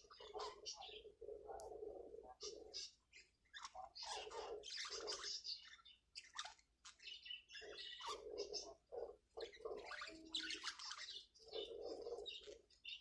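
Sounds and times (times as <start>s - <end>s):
budgerigars chattering: 0.0s - 13.0s.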